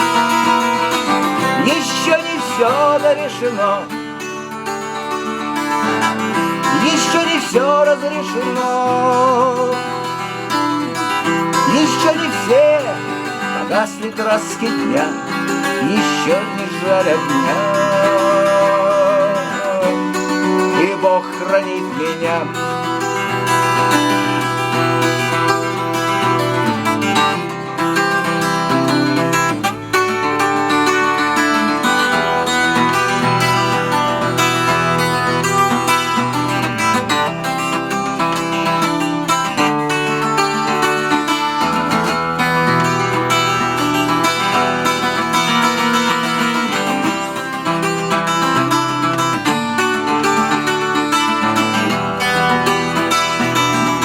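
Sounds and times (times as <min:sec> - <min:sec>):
acoustic guitar strummed and plucked: 0:00.0 - 0:54.0.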